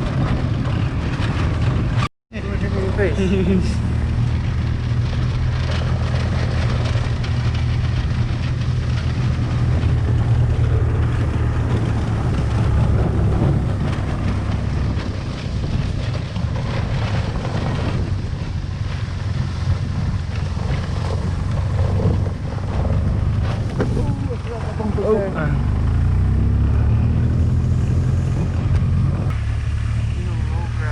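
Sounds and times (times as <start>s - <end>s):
wind on microphone: 0.0s - 30.9s
golf cart motor humming: 2.4s - 30.9s
rattles and knocks: 3.9s - 29.4s.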